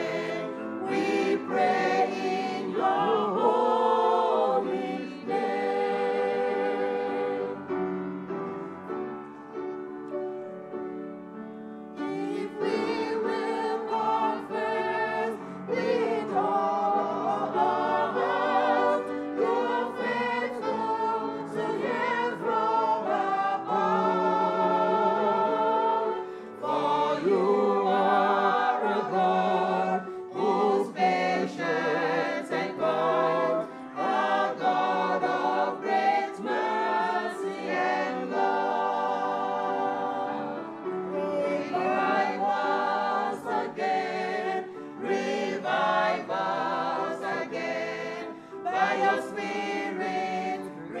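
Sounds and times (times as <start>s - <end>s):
choir singing a hymn: 0.0s - 51.0s.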